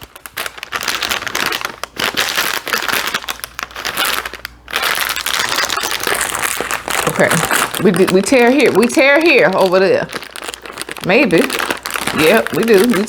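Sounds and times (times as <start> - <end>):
plastic snack packet crinkling: 0.0 - 13.0.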